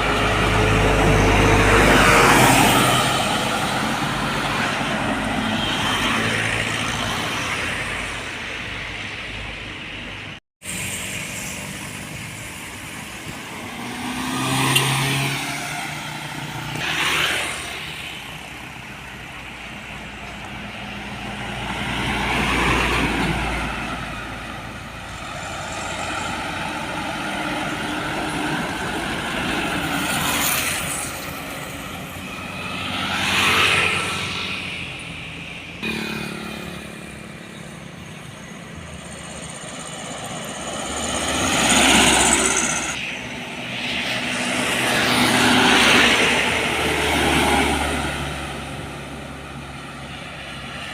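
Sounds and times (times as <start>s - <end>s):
vehicles passing by: 0.0s - 50.9s.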